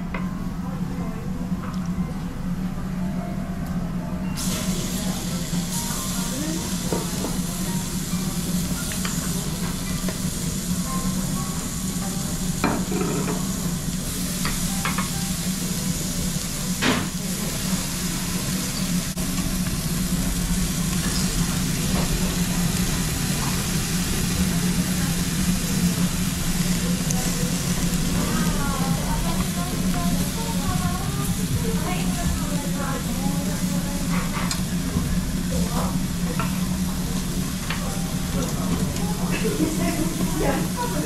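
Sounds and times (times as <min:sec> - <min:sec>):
meat sizzling on grill: 0:04.4 - 0:41.0.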